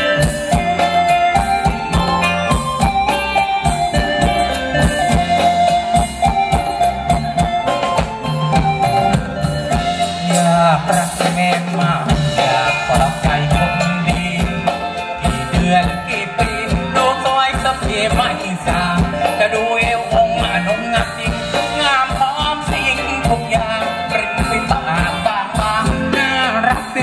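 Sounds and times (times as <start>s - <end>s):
live band dance music: 0.0s - 27.0s
steady drum beat: 0.0s - 27.0s.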